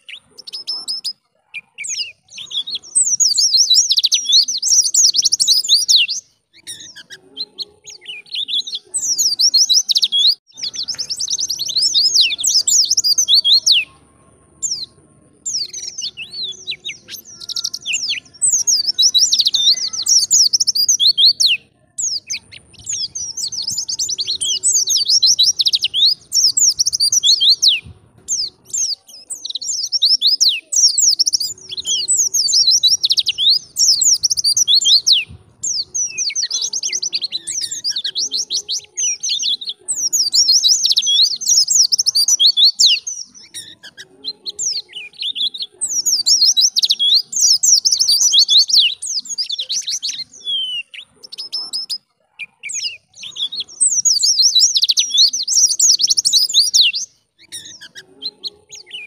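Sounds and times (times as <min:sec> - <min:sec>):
bird singing high chirps: 0:00.0 - 0:59.0.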